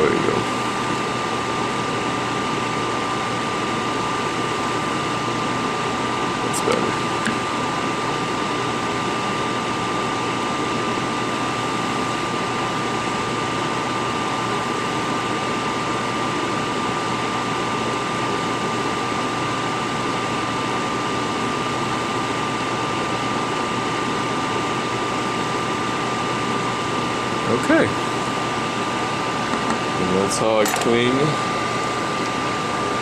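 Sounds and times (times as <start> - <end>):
fan hiss: 0.0 - 33.0.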